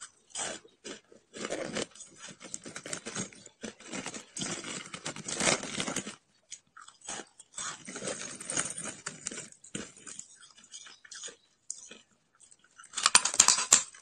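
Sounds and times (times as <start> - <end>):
person crunching shaved ice: 0.2 - 12.0.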